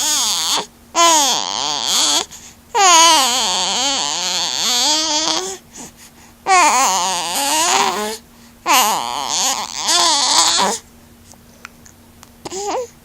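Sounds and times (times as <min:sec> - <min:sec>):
baby crying and babbling: 0:00.0 - 0:05.6, 0:06.5 - 0:10.8, 0:12.4 - 0:13.0.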